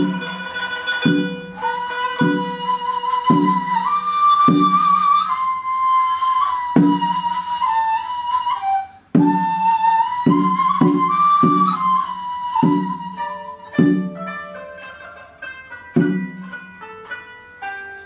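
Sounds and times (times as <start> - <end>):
hand drum strokes: 0.0 - 5.3, 6.6 - 7.4, 9.1 - 18.0
plucked zither and lute: 0.0 - 18.0.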